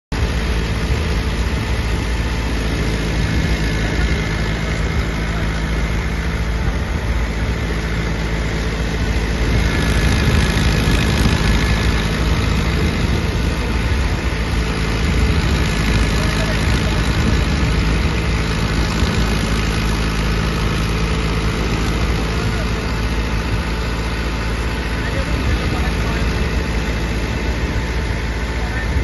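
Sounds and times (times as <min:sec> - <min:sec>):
threshing machine running: 0:00.1 - 0:29.0
tractor engine under load: 0:00.1 - 0:29.0.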